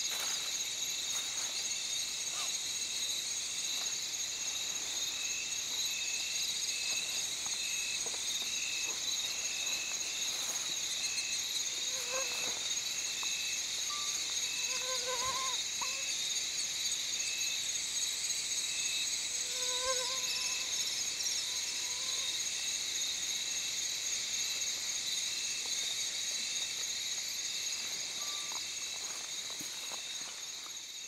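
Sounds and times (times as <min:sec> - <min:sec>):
insect chirp: 0:00.0 - 0:31.0
insects buzzing: 0:00.0 - 0:31.0
low insect calls: 0:00.0 - 0:31.0.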